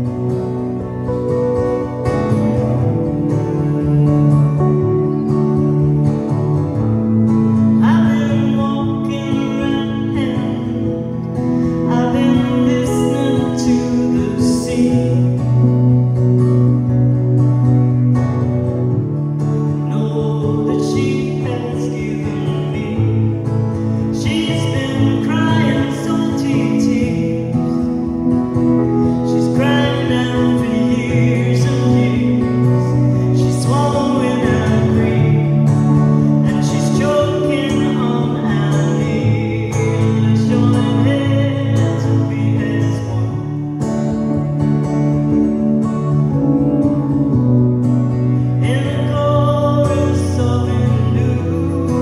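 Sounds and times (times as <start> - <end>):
electric keyboard: 0.0 - 52.0
strummed acoustic guitar: 0.0 - 52.0.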